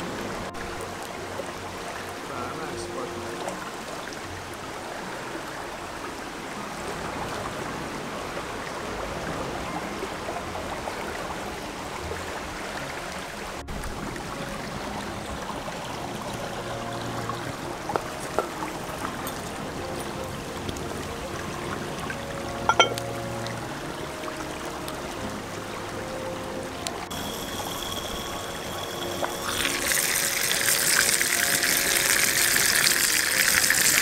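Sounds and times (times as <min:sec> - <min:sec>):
water running over rocks: 0:00.0 - 0:34.0.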